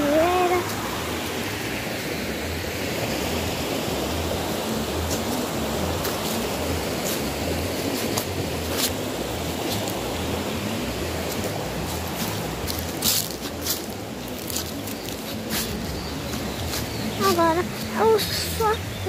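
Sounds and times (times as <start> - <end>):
waterfall: 0.0 - 19.0.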